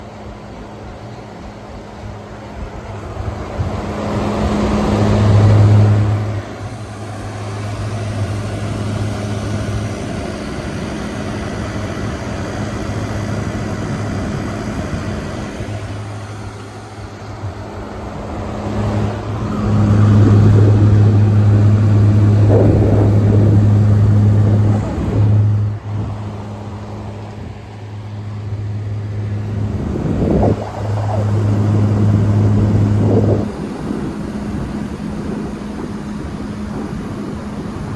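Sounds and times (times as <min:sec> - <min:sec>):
air conditioner compressor hum: 0:00.0 - 0:37.9
fan rushing: 0:00.0 - 0:37.9.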